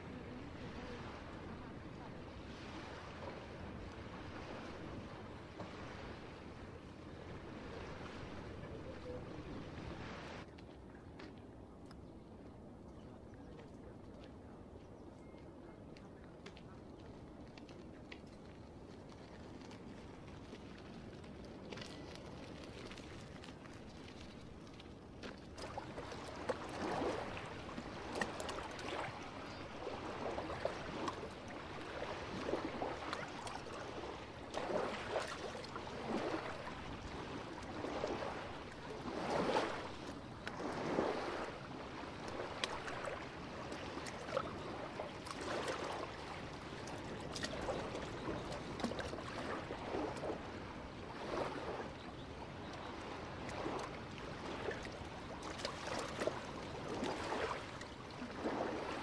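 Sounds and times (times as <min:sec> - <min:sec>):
small waves lapping at shore: 0:00.0 - 0:12.0, 0:12.7 - 0:59.0.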